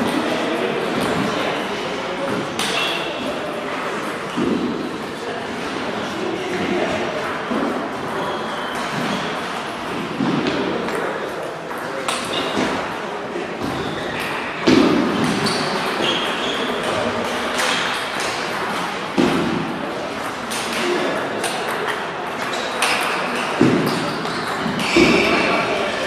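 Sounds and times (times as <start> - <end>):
distant table tennis rallies: 0.0 - 26.0.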